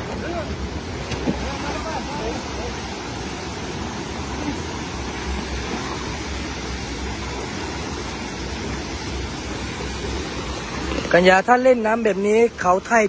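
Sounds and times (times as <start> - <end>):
river and waterfall rushing: 0.0 - 13.0.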